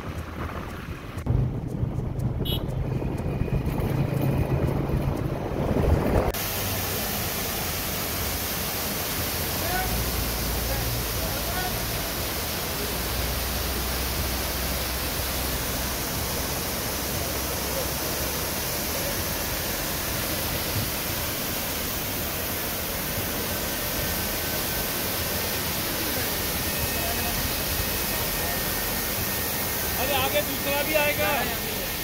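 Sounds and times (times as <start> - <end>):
waterfall rushing and splashing: 6.2 - 32.0.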